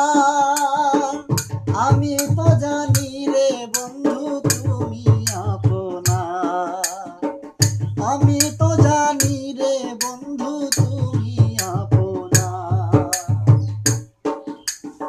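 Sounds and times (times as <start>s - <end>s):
man singing folk melody: 0.0s - 14.0s
hand drum rhythm: 0.0s - 15.0s.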